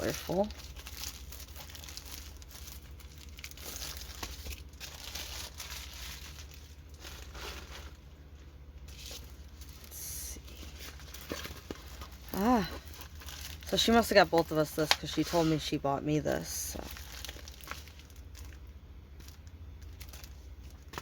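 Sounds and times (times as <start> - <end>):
plastic packaging crinkling and tearing: 0.0 - 21.0.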